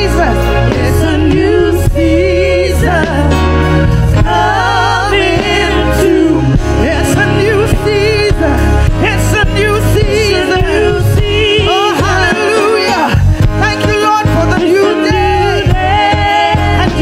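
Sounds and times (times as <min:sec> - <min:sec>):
keyboard with heavy bass: 0:00.0 - 0:17.0
women singing with vibrato: 0:00.0 - 0:17.0.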